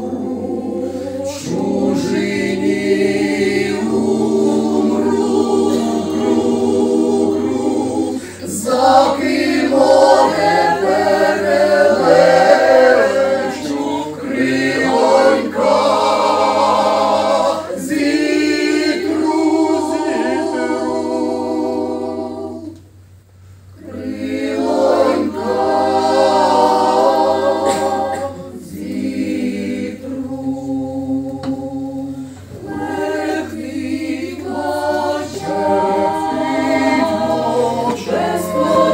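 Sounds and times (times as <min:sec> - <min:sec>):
mixed choir singing: 0:00.0 - 0:23.0, 0:23.8 - 0:38.9.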